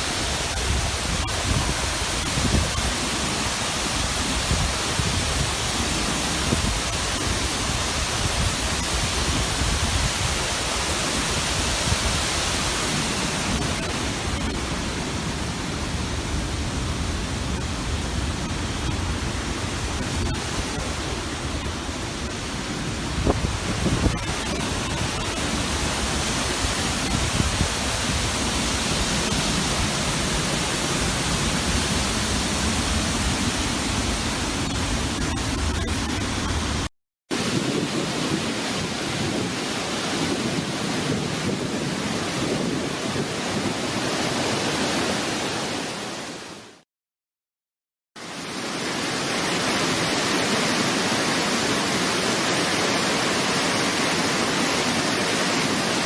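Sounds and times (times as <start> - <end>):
waterfall rushing: 0.0 - 46.8, 48.2 - 56.0.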